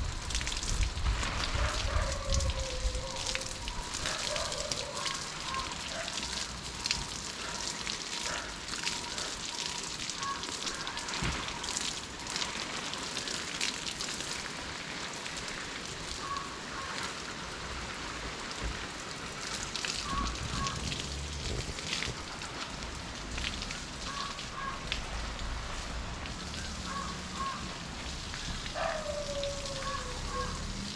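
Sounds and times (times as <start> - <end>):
water spraying onto leaves: 0.0 - 30.9.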